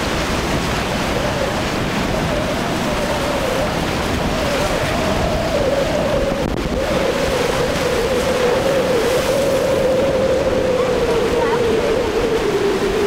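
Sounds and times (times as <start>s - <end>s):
choppy waves: 0.0s - 13.0s
outboard motors droning: 0.0s - 13.0s
spray and wake rushing: 0.0s - 13.0s
wind on microphone: 0.0s - 13.0s.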